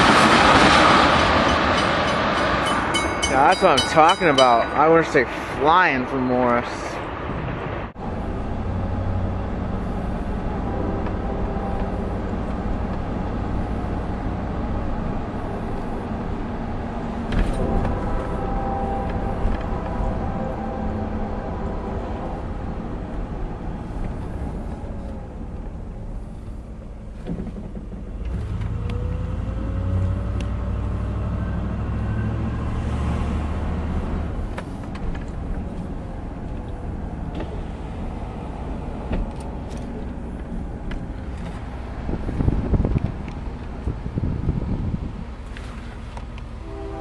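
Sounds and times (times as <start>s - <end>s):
diesel freight train rumbling: 0.0s - 47.0s.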